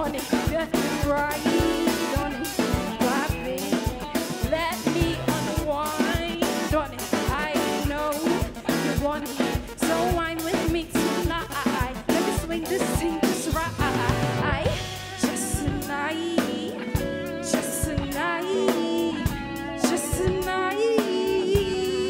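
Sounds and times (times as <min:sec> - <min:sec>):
live band playing a groove: 0:00.0 - 0:22.0
woman singing melodic runs: 0:00.0 - 0:22.0.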